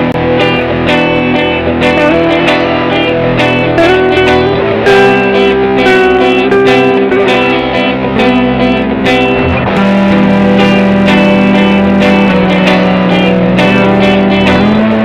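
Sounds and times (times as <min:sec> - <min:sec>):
guitar picked notes: 0:00.0 - 0:15.0.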